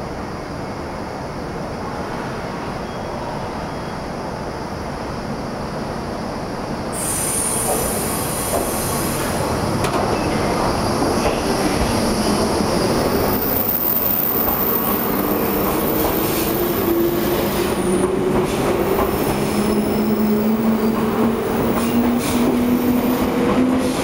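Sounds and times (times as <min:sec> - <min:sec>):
electric train rumbling: 0:00.0 - 0:24.0
high-pitched train whine: 0:00.5 - 0:24.0.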